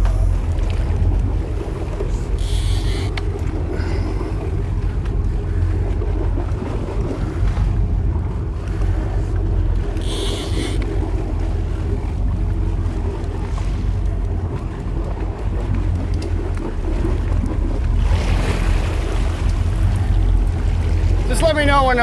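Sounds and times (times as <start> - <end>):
boat engine droning: 0.0 - 22.0
water noise: 0.0 - 22.0
wind: 0.0 - 22.0.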